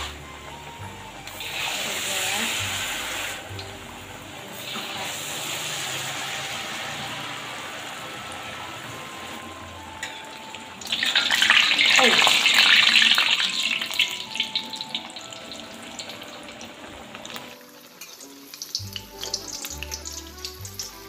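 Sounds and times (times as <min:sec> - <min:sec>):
oil sizzling in a wok: 0:00.0 - 0:21.0
loud burst of frying: 0:01.2 - 0:21.0.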